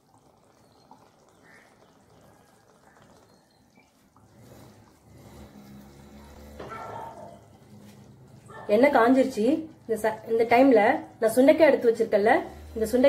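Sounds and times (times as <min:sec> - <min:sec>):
oil trickling into a pan: 0:00.0 - 0:13.0.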